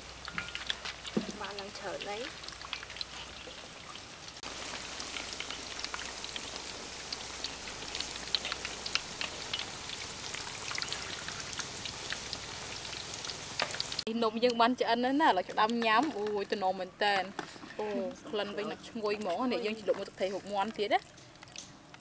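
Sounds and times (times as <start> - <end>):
oil sizzling and popping: 0.0 - 22.0.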